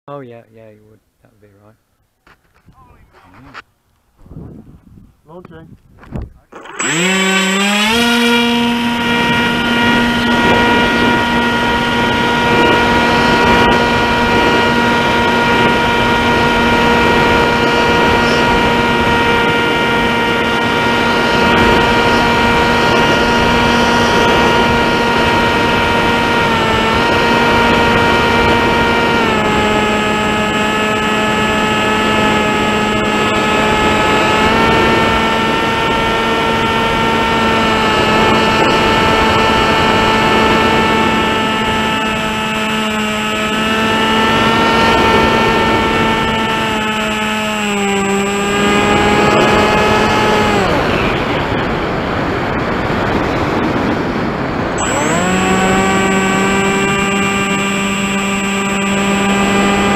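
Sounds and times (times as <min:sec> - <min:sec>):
wind noise: 0:02.3 - 0:59.9
electric motor and propeller whine: 0:06.0 - 0:59.9.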